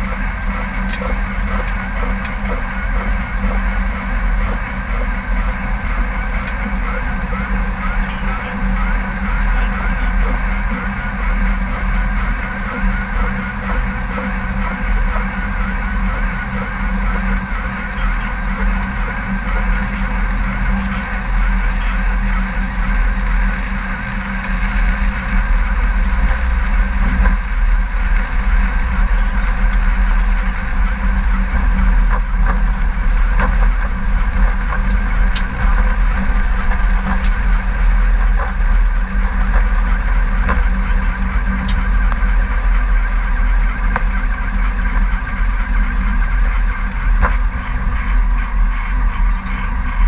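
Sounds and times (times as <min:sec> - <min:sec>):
aircraft engine rumble in cockpit: 0:00.0 - 0:50.0.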